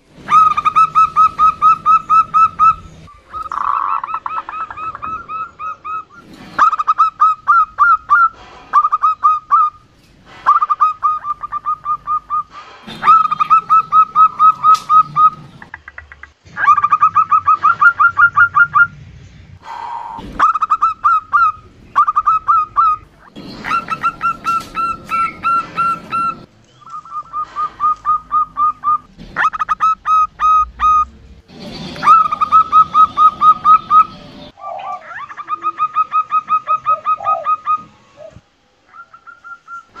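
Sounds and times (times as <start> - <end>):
dove calling rapid notes: 0.2 - 19.0, 19.8 - 31.1, 31.8 - 40.0.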